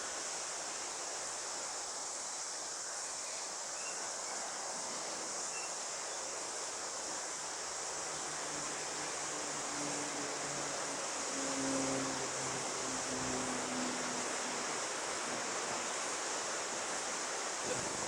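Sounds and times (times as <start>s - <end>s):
bush ambience hiss: 0.0s - 18.0s.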